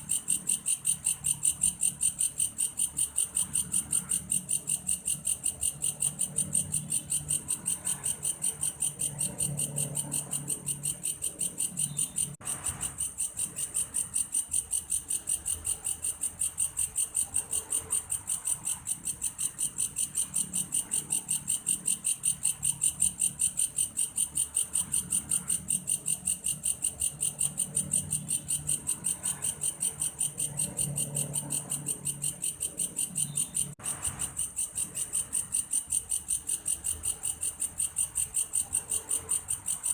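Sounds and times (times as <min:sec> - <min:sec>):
grasshopper pulsing chirp: 0:00.0 - 0:39.9.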